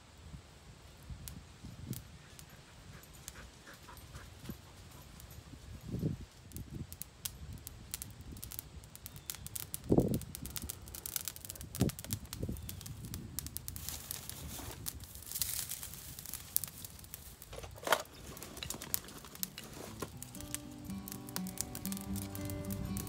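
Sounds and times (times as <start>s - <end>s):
dry grass rustling and crackling: 4.3s - 23.0s.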